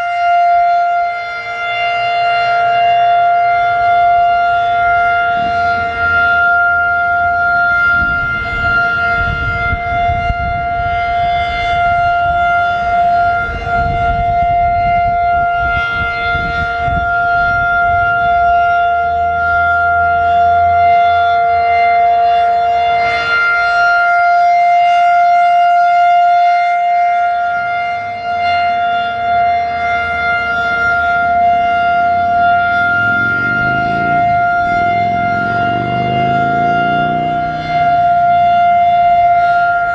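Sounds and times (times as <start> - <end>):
warning siren wail: 0.0 - 39.9
wind buffeting microphone: 2.6 - 39.9.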